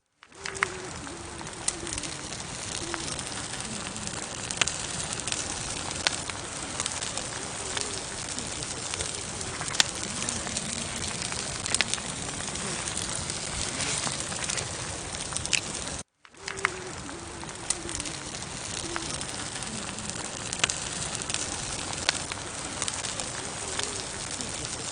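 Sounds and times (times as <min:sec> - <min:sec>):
burning wood crackling and popping: 0:00.0 - 0:24.9
hiss of campfire flames: 0:00.2 - 0:24.9.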